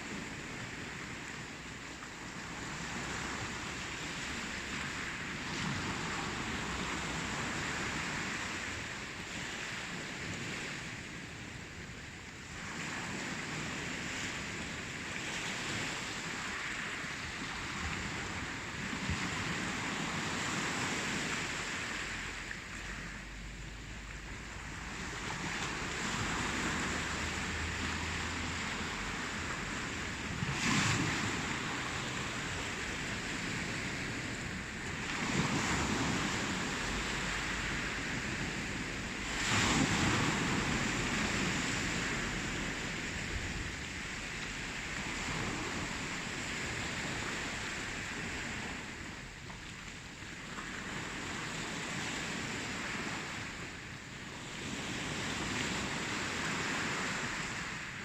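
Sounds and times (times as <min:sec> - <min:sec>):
ocean waves washing ashore: 0:00.0 - 0:58.0
waves breaking: 0:00.0 - 0:58.0.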